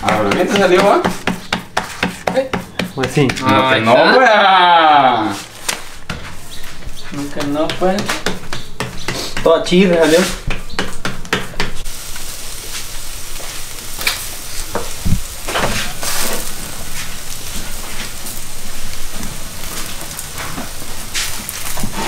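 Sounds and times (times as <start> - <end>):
fire crackles and pops: 0.0 - 3.8, 4.4 - 22.0
tortillas sizzling: 0.0 - 22.0.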